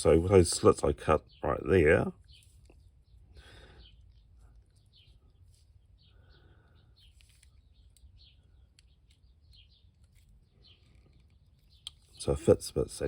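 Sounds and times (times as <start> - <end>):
faint bird chirps: 1.1 - 12.6.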